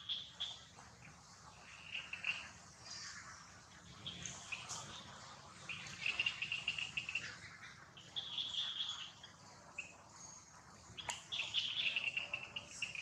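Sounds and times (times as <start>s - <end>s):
birds chirping: 0.0s - 3.1s, 3.9s - 13.0s
rapid high-pitched bird trills: 0.0s - 3.1s, 4.0s - 10.1s, 11.0s - 13.0s.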